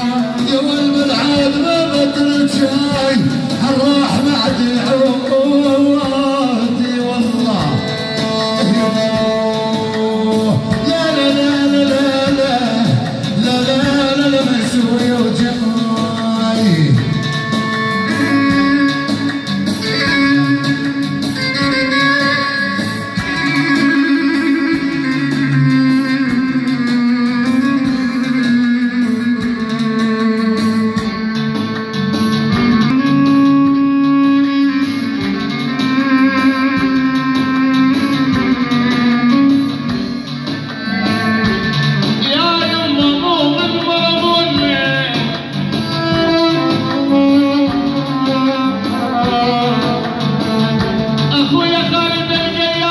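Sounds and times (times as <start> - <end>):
keyboard folk melody: 0.0 - 52.9.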